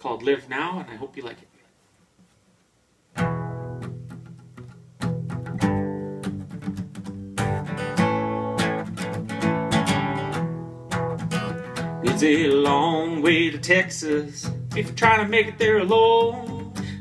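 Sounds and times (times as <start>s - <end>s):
acoustic guitar strumming: 3.1s - 17.0s.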